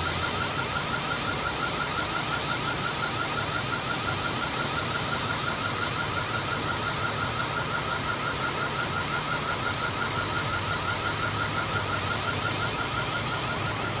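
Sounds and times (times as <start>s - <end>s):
electronic alarm chirping: 0.0s - 14.0s
engines idling: 0.0s - 14.0s.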